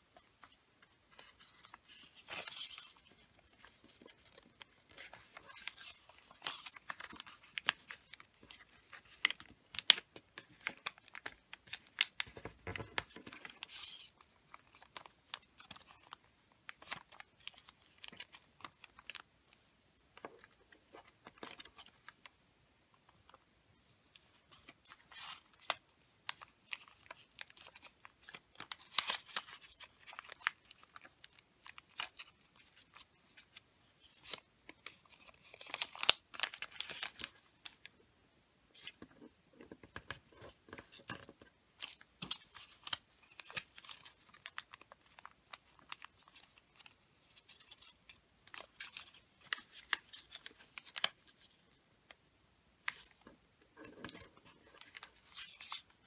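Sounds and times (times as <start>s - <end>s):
wrapping paper rustling and creasing: 0.1s - 22.4s, 23.1s - 38.0s, 38.7s - 51.9s, 52.9s - 56.0s.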